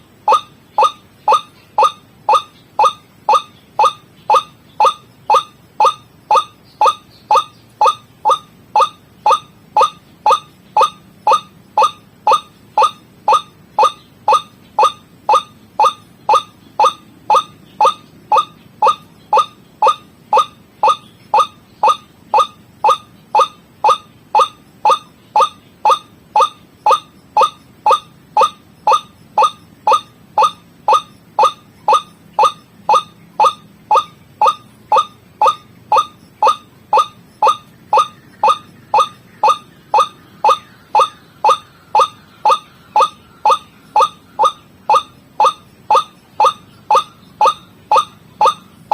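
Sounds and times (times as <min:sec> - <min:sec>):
waterhen calling: 0:00.0 - 0:48.9.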